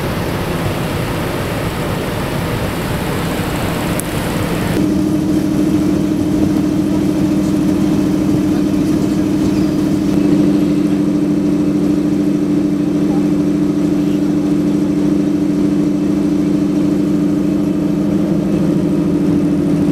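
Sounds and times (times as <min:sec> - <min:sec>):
diesel locomotive engine idling: 0:00.0 - 0:19.9.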